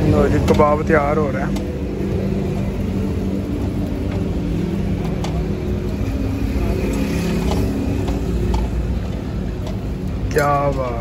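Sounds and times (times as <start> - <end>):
engines rumbling with droning hum: 0.0 - 11.0.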